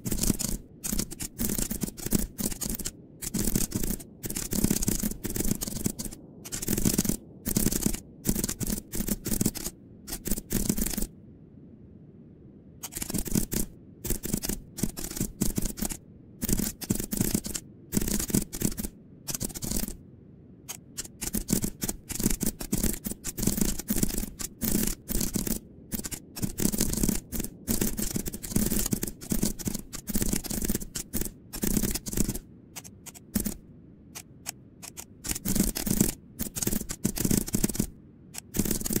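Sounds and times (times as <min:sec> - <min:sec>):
fast typing on keyboard: 0:00.0 - 0:11.1, 0:12.8 - 0:20.0, 0:20.7 - 0:33.6, 0:34.2 - 0:39.0.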